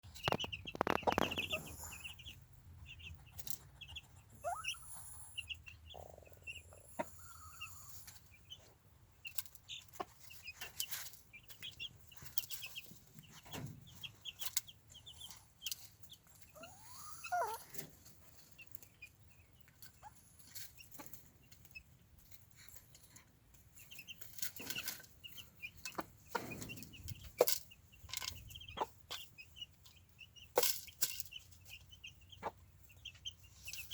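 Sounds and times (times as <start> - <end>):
chicks peeping: 0.0 - 33.9
hen clucking: 0.1 - 30.7, 31.6 - 33.9.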